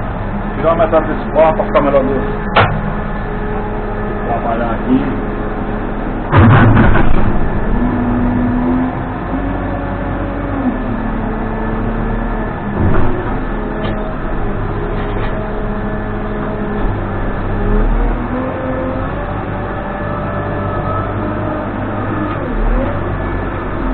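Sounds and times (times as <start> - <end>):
backhoe diesel engine whining: 0.0 - 23.9.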